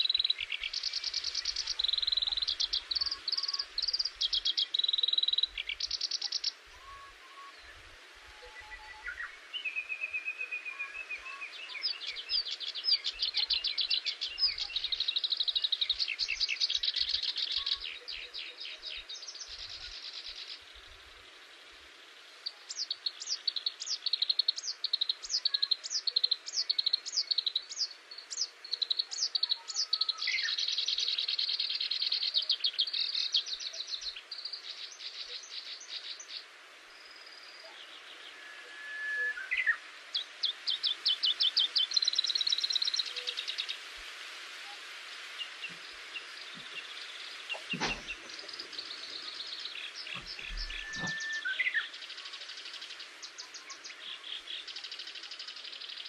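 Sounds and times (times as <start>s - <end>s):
songbirds singing trills: 0.0s - 56.0s.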